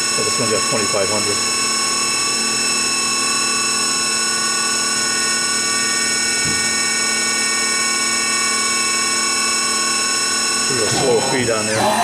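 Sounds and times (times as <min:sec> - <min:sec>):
lathe spindle whine: 0:00.0 - 0:12.0.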